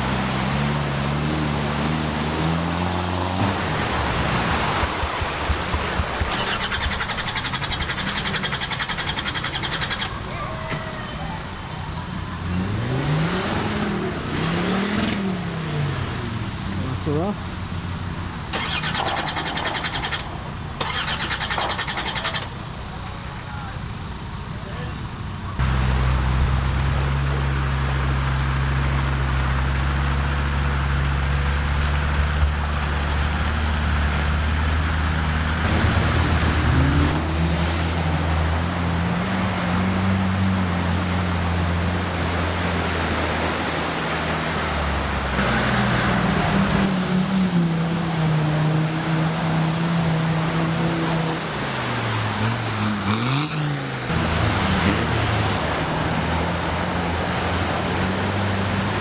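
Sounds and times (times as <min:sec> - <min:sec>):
off-road vehicle engines revving: 0:00.0 - 0:59.0.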